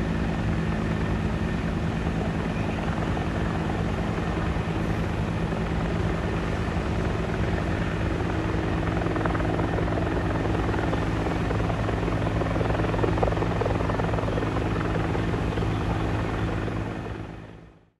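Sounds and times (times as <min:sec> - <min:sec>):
helicopter rotor and engine drone: 0:00.0 - 0:17.9.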